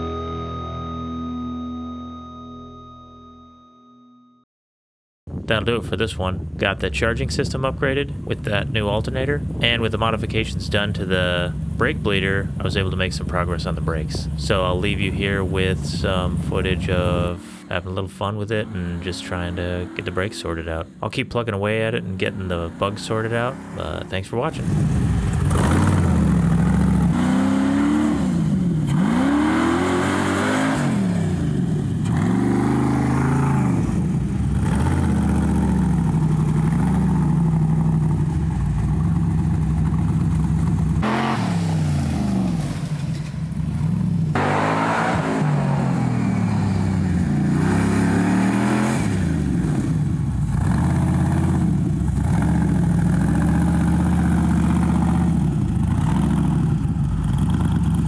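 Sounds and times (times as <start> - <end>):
buggy engine revving: 5.3 - 58.0.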